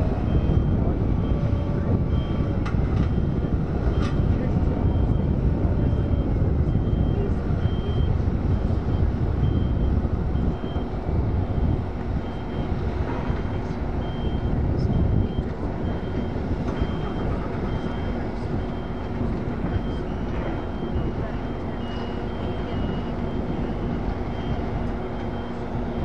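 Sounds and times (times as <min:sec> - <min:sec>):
low diesel machinery rumble: 0:00.0 - 0:26.0
reversing alarm beeping: 0:00.2 - 0:26.0.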